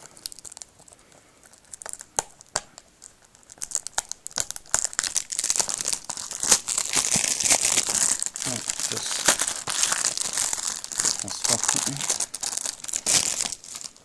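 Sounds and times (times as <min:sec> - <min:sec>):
cellophane crinkling and tearing: 0:00.0 - 0:14.0.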